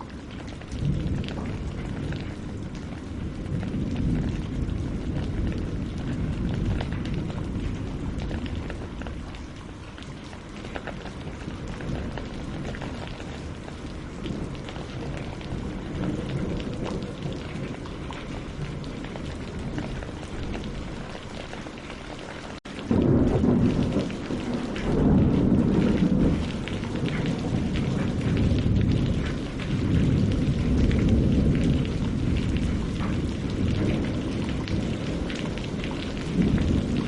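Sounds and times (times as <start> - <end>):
deep rumble of thunder: 0.0 - 21.9, 22.7 - 37.0
rain on water and leaves: 0.0 - 37.0.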